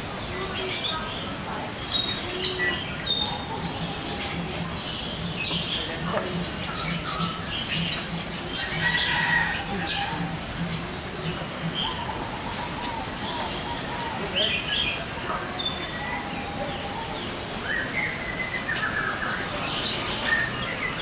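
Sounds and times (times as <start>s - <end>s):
birds chirping: 0.0s - 21.0s
steady background hiss: 0.0s - 21.0s.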